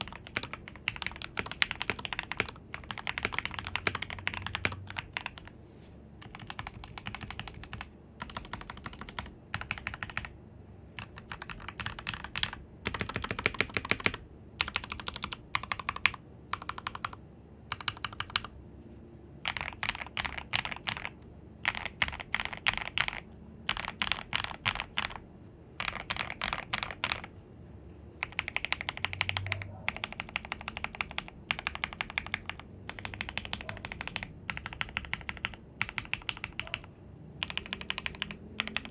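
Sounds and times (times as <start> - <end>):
mechanical keyboard typing: 0.0 - 5.5, 6.2 - 18.6, 19.4 - 25.2, 25.8 - 27.3, 28.2 - 38.9.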